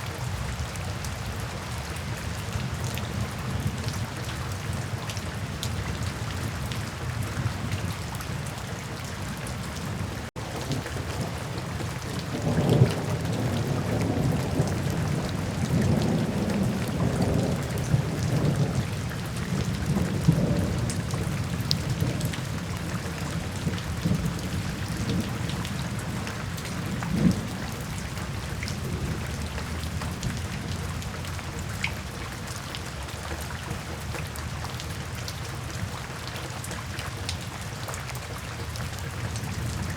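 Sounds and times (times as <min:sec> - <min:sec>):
steady rainfall: 0:00.0 - 0:39.9
low rumble of thunder: 0:01.3 - 0:32.7, 0:39.2 - 0:39.9.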